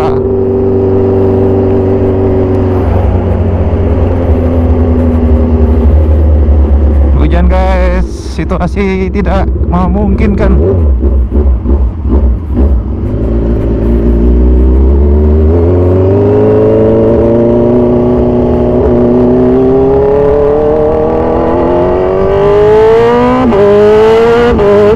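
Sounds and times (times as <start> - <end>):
motorcycle engine accelerating: 0.0 - 24.9.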